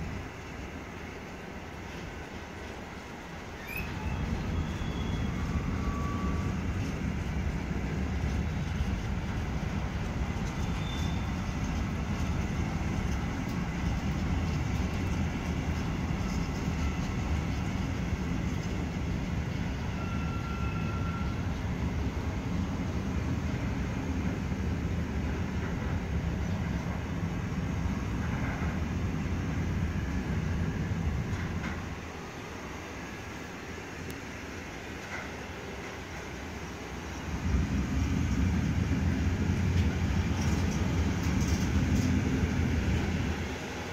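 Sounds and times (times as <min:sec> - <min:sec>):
train wagons rolling on rails: 0:00.0 - 0:43.9.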